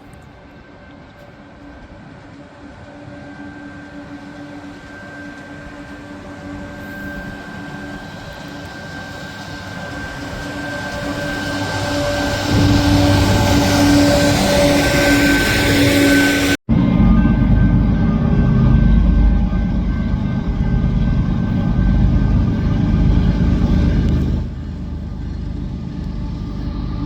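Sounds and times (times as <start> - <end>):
train approaching: 0.0 - 27.0.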